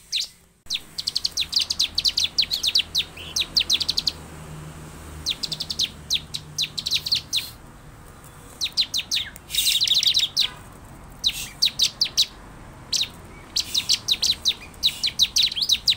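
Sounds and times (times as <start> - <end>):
bird calling with high chips: 0.0 - 4.2, 5.2 - 15.9.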